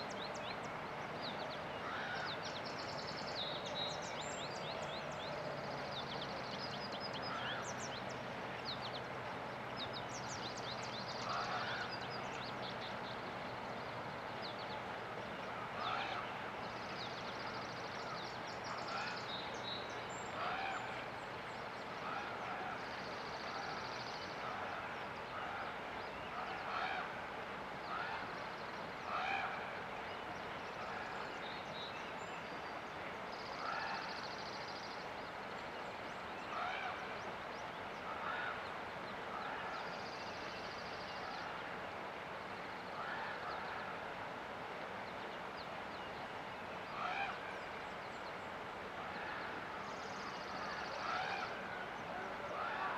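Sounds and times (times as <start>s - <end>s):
river water rushing: 0.0s - 52.9s
birds calling: 1.8s - 44.2s.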